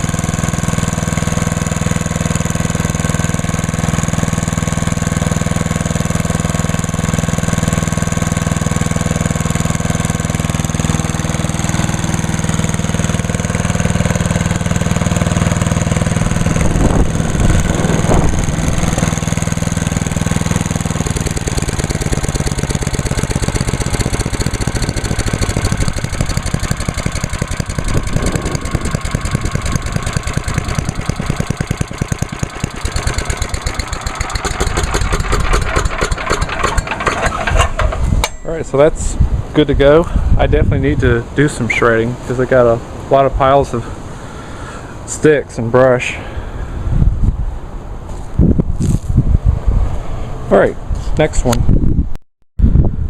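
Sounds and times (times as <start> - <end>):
chipper engine running: 0.0 - 46.8.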